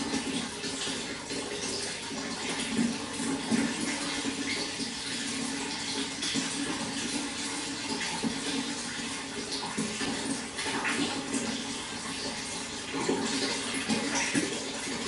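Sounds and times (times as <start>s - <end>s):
running water: 0.0s - 15.0s
small water splashes: 0.0s - 15.0s.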